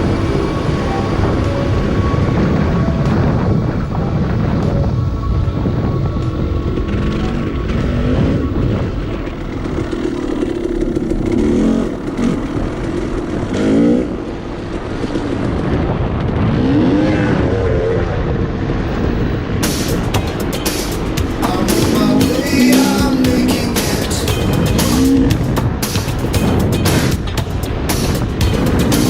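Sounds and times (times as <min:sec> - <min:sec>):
off-road engine revving: 0:00.0 - 0:15.8, 0:18.9 - 0:29.0.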